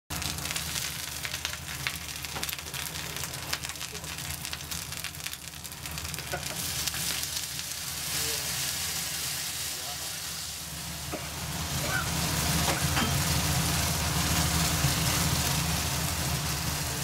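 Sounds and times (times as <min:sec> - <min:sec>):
food sizzling in a pot: 0:00.1 - 0:17.0
gas flame rumble: 0:00.1 - 0:17.0.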